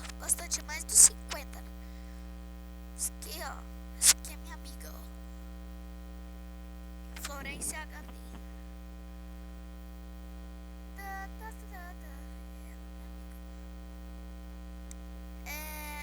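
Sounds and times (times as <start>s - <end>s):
electrical mains hum with buzzing: 0.0s - 16.0s.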